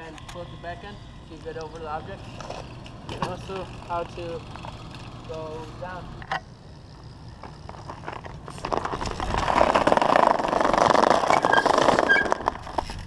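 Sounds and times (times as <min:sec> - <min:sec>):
bike tyres rolling on concrete: 0:00.0 - 0:13.0.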